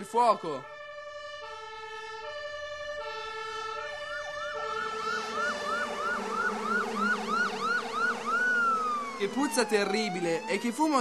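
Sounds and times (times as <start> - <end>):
two-tone siren: 0.0 - 11.0
wailing siren: 0.0 - 11.0.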